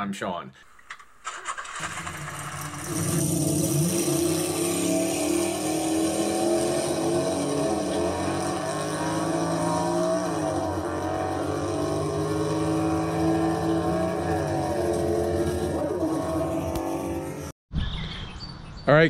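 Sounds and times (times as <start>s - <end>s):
car engine running: 0.7s - 17.5s.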